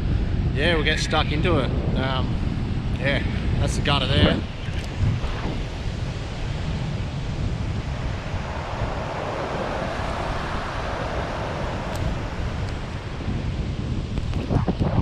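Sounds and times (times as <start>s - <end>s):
wind buffeting microphone: 0.0s - 15.0s
ocean surf breaking: 1.3s - 15.0s.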